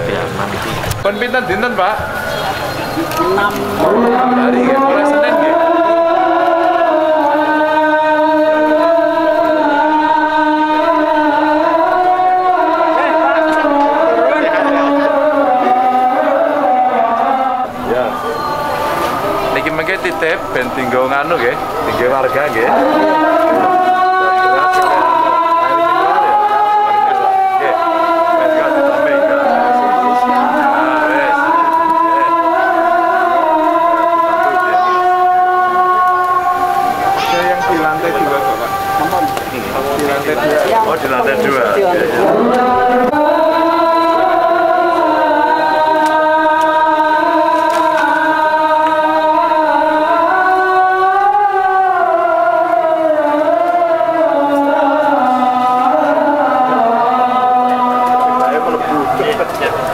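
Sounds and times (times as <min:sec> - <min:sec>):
person chanting long notes: 0:01.0 - 0:59.9
person singing melismatically: 0:01.9 - 0:59.9.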